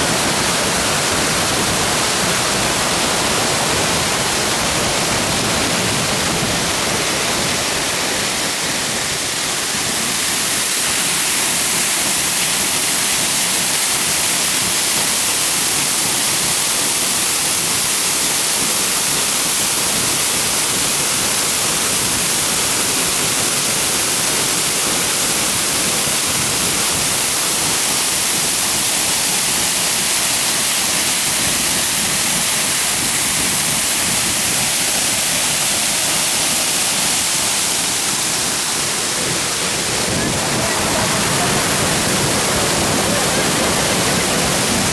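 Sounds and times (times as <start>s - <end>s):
stream water rushing: 0.0s - 44.9s
waterfall pouring onto rocks: 0.0s - 44.9s.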